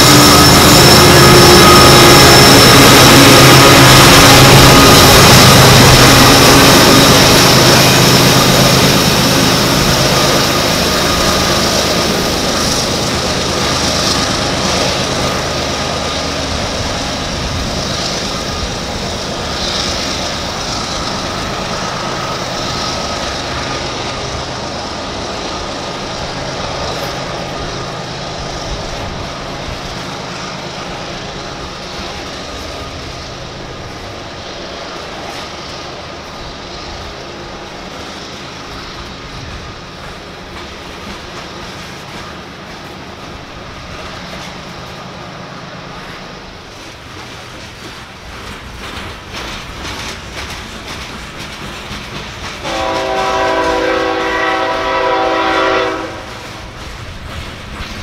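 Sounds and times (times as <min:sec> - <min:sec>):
diesel locomotive engine drone: 0:00.0 - 0:58.0
train wheels rumbling and clattering: 0:00.0 - 0:58.0.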